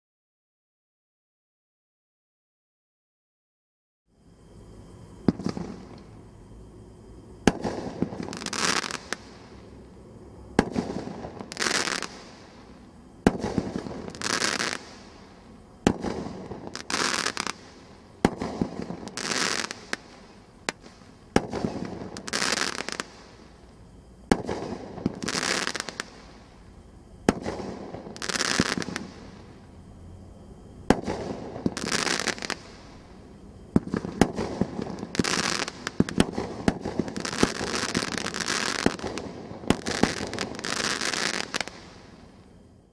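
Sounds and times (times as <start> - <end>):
crackling firework burst: 4.7 - 42.6.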